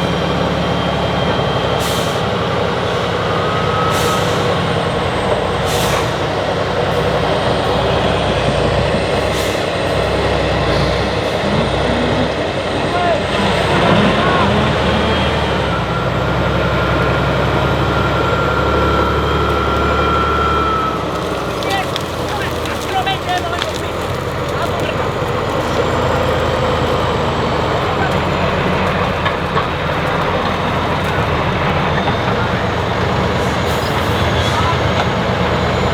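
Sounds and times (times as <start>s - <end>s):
diesel truck engine rumbling: 0.0s - 35.9s.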